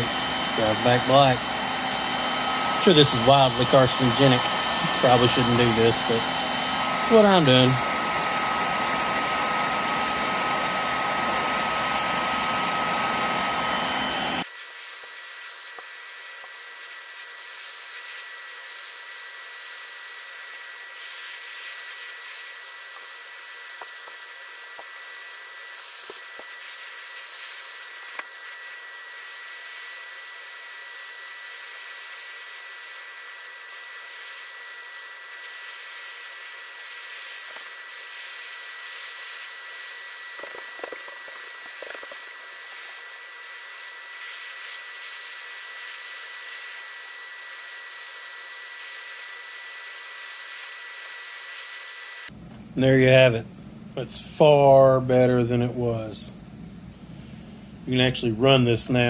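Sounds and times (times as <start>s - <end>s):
heat gun running: 0.0s - 59.0s.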